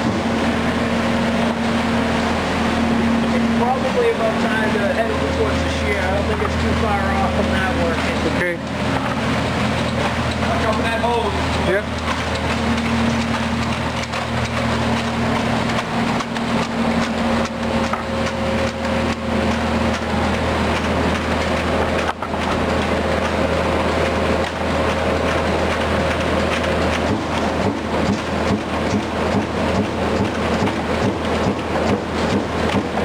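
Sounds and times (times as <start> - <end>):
machine whine: 0.0 - 33.0
punch machine hum: 0.0 - 33.0.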